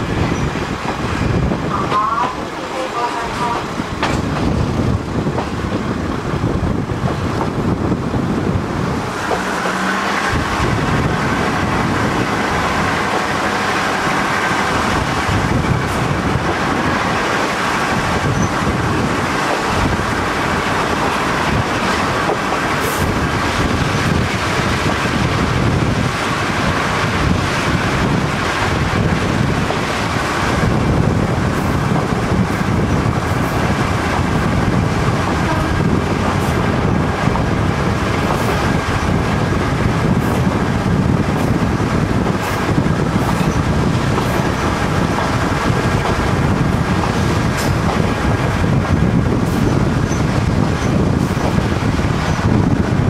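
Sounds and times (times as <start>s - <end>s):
railcar engine and wheels drone: 0.0s - 53.0s.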